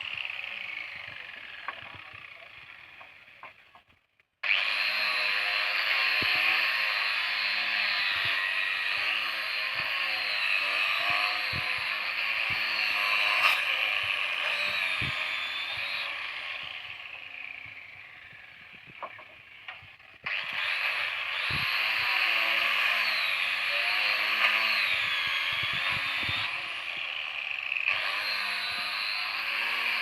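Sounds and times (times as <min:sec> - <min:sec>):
power sander on wood: 0:04.4 - 0:30.0.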